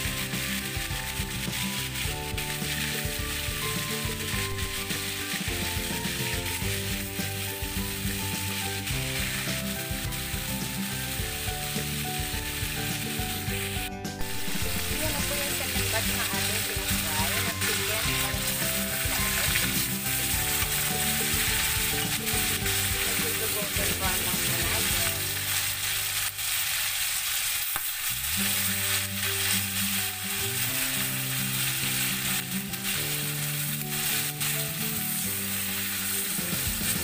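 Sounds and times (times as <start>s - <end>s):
chicken sizzling in hot oil: 0.0s - 37.0s
metal tongs turning food: 0.0s - 37.0s.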